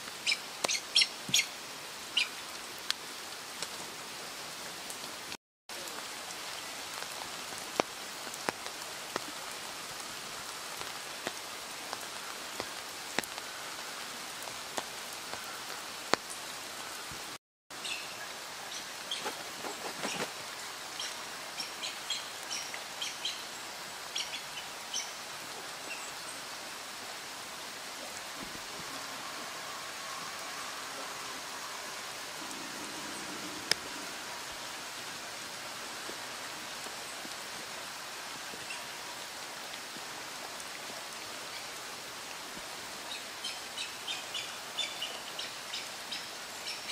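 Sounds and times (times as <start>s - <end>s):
rain hissing: 0.0s - 46.9s.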